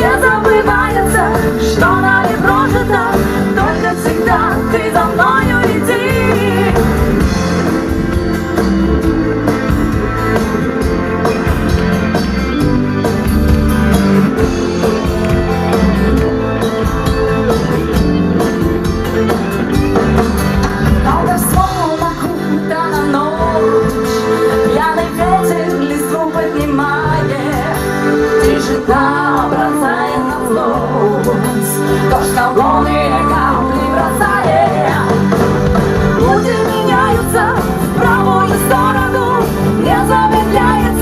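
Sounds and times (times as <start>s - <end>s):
rock band playing live: 0.0s - 41.0s.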